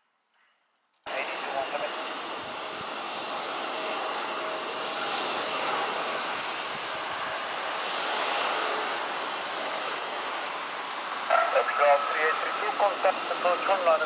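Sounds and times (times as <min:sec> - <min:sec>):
jet engine roar: 0:01.1 - 0:14.0.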